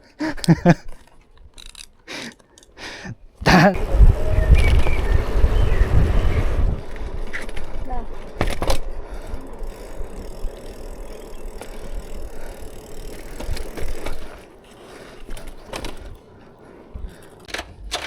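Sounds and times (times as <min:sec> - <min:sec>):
bicycle frame rattling: 0:00.3 - 0:02.8, 0:03.8 - 0:18.0
tyres and wind rumble: 0:02.6 - 0:18.0.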